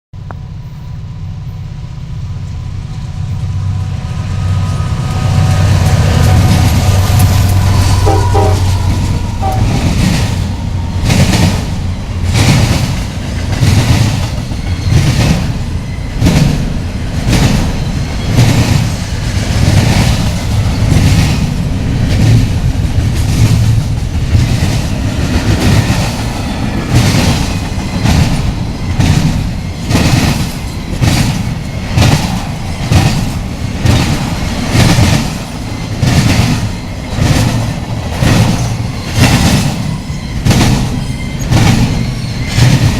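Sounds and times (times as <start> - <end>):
train rumbling past: 0.2 - 42.9.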